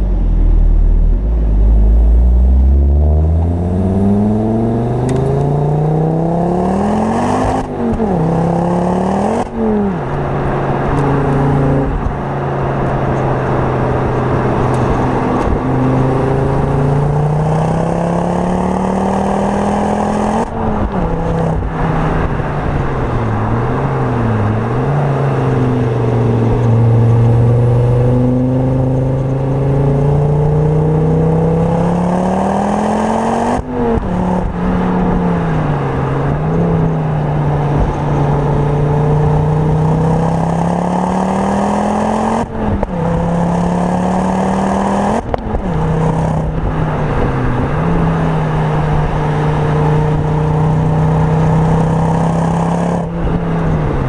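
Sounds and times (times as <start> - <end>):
car engine driven hard: 0.0 - 54.0.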